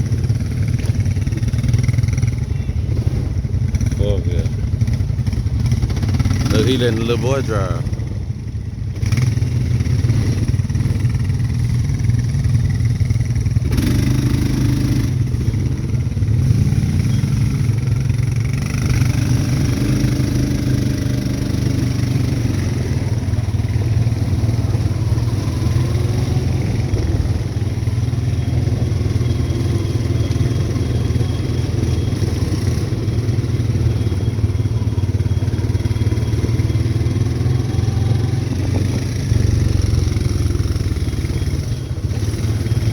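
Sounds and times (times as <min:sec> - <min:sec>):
atv engine revving: 0:00.0 - 0:42.9.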